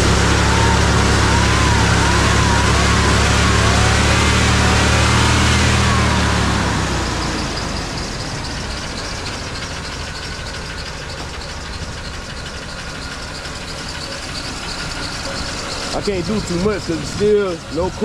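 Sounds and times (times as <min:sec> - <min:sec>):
pickup engine revving and idling: 0:00.0 - 0:18.0.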